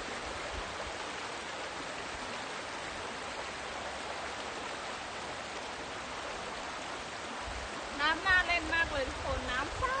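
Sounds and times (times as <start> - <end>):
creek water flowing over rocks: 0.0 - 10.0.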